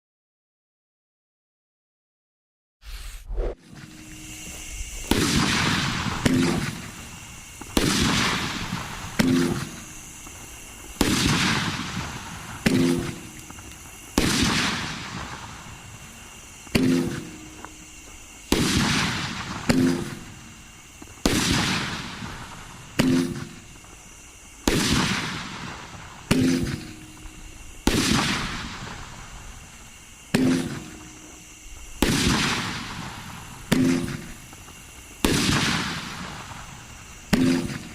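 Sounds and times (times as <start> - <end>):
fireworks bangs with rumbling echo: 4.8 - 24.0, 24.6 - 37.9.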